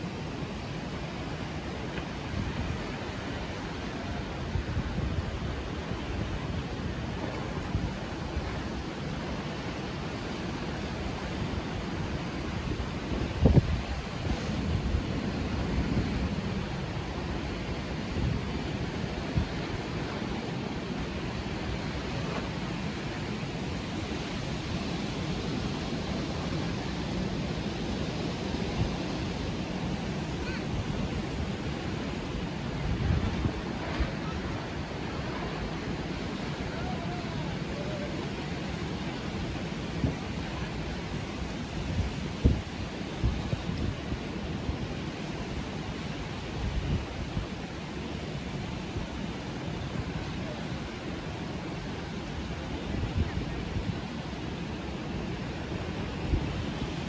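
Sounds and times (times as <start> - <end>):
breaking surf: 0.0 - 57.0
wind rumbling on microphone: 0.0 - 57.0.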